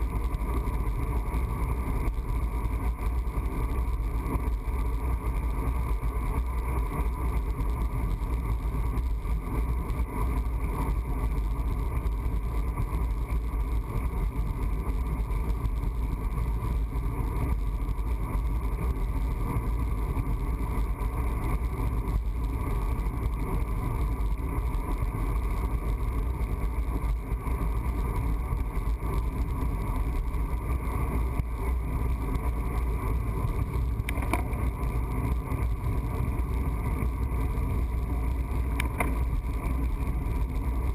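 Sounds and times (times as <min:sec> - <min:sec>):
road noise rumble: 0:00.0 - 0:40.9.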